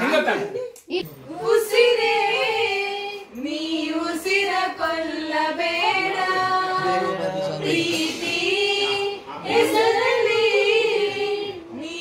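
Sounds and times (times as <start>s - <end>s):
group of voices singing: 1.1s - 12.0s.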